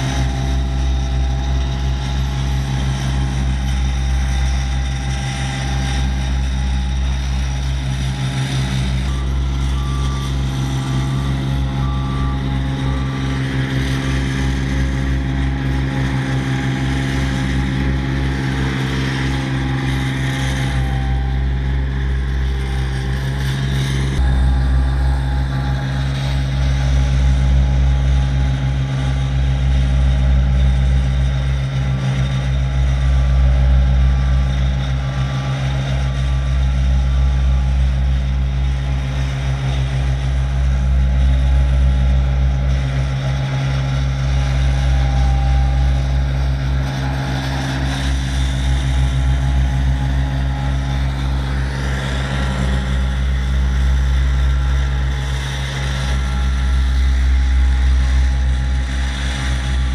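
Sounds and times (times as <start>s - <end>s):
road roller diesel engine: 0.0s - 59.9s.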